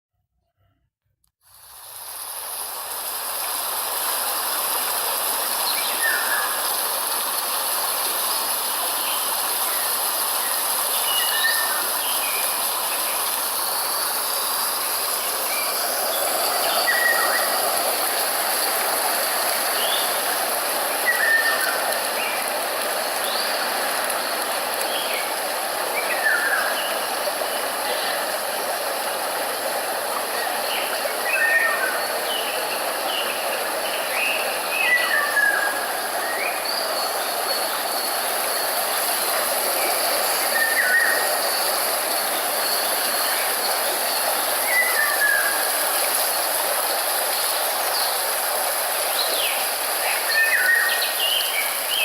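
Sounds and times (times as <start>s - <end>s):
flowing water rushing: 1.4s - 52.0s.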